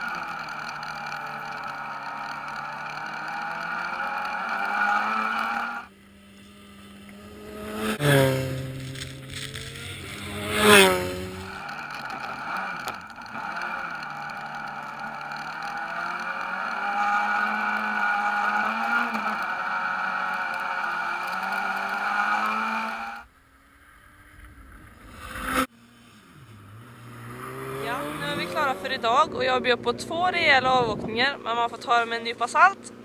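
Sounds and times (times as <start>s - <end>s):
approaching car engine: 0.0s - 33.0s
rally car engine on board: 0.0s - 33.0s.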